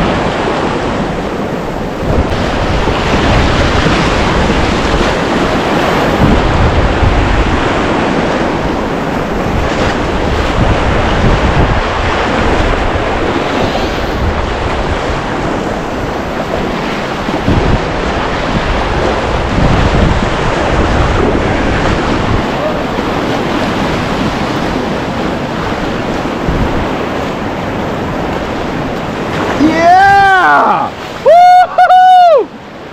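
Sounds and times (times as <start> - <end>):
wind buffeting microphone: 0.0 - 29.8
river whitewater rushing: 0.0 - 32.9.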